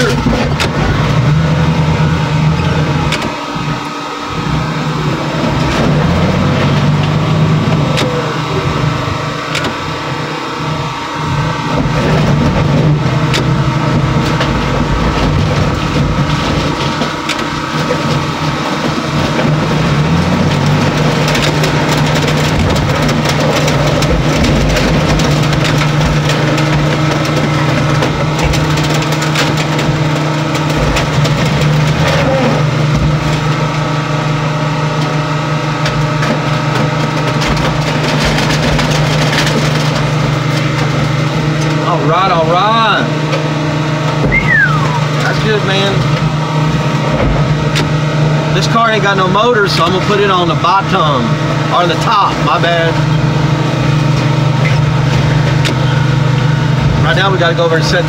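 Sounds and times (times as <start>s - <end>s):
heavy machinery engine running: 0.0s - 58.0s.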